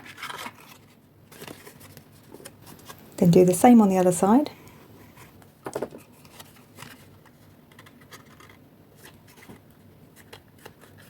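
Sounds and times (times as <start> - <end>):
paper rustling: 0.0 - 3.1, 5.0 - 11.0.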